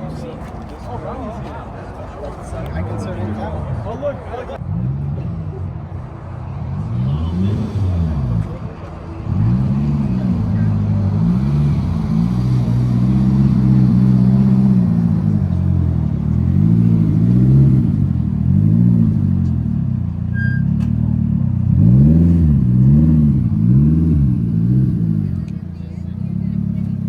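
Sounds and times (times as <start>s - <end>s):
car engine revving: 4.6s - 27.0s.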